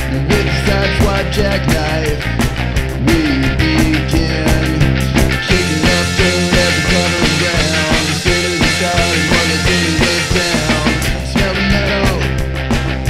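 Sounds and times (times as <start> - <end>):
guitar melody with bending notes: 0.0 - 13.0
rock band playing: 0.0 - 13.0.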